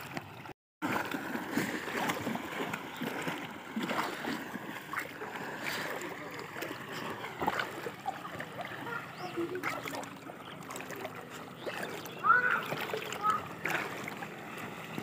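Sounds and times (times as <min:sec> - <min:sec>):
wading through water splashing: 0:00.0 - 0:15.0.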